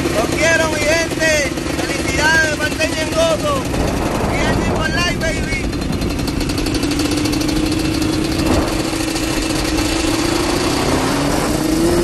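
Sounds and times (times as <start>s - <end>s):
small motor vehicle engine: 0.0s - 12.0s.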